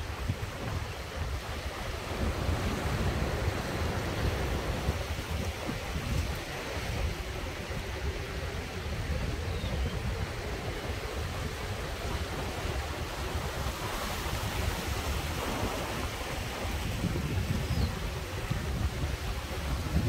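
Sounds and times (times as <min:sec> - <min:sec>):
sea waves washing among rocks: 0:00.0 - 0:20.0
wind buffeting microphone: 0:00.0 - 0:20.0.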